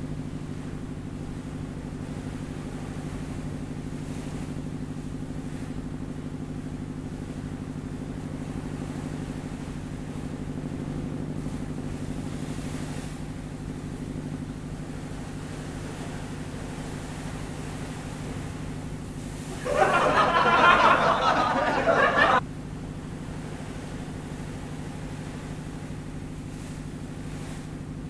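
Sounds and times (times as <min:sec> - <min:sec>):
boat engine throbbing: 0:00.0 - 0:28.0.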